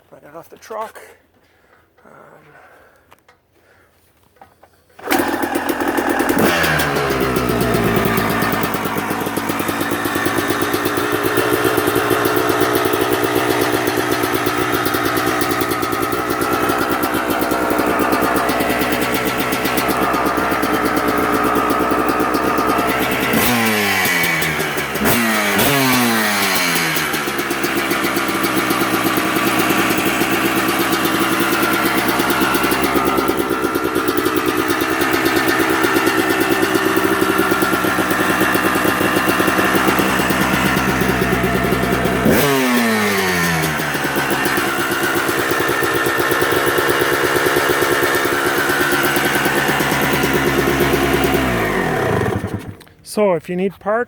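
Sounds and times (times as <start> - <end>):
engine revs blipped: 5.0 - 52.8
two-stroke engine idling: 5.0 - 54.0.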